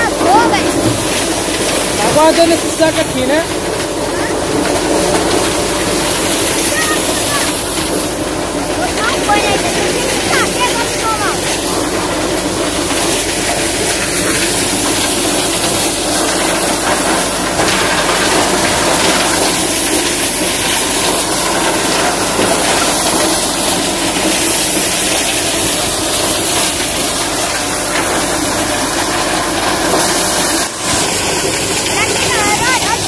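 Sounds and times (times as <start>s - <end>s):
corn shelling machine running: 0.0s - 33.0s
tractor engine: 0.0s - 33.0s.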